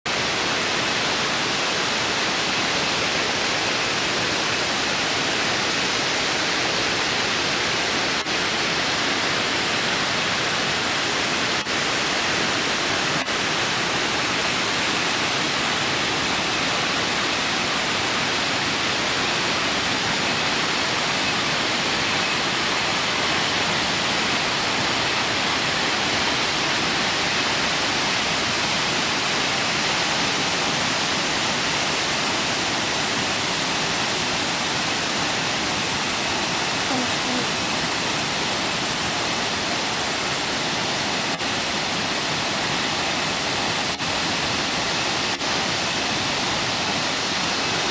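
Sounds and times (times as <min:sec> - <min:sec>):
waterfall rushing: 0:00.1 - 0:47.9.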